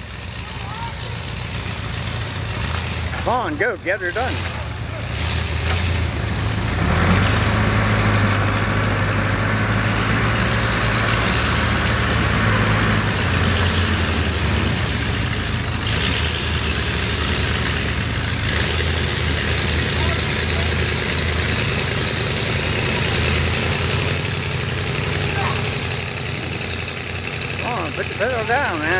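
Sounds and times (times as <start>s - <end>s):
truck engine revving loudly: 0.0s - 28.9s.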